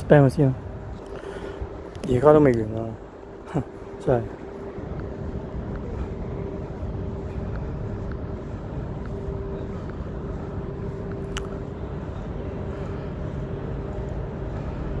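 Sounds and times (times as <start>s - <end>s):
faint constant hum: 0.0s - 15.0s
low rumbling background noise: 0.0s - 15.0s.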